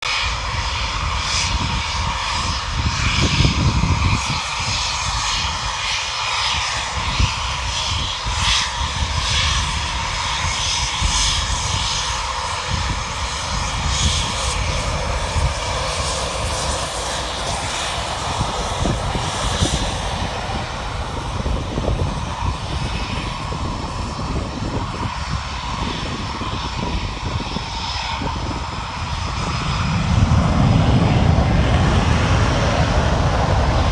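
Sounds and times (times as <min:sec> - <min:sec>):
jet engines roaring: 0:00.0 - 0:33.9.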